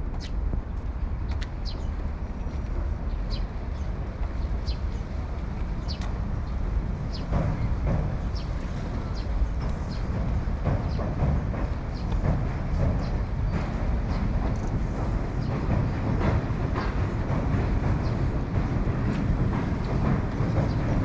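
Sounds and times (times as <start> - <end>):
steady low city rumble: 0.0 - 21.0.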